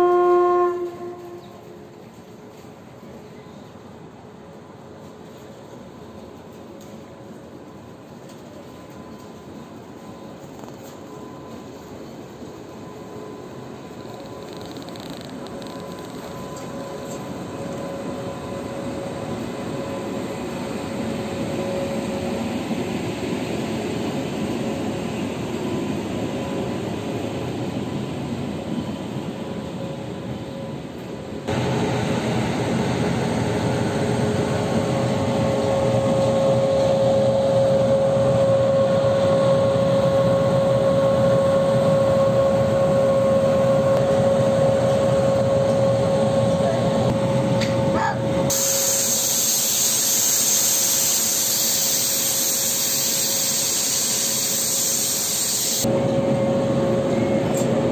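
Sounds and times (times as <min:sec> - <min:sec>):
electric locomotive whine: 0:00.0 - 0:57.9
machinery hum: 0:00.8 - 0:57.9.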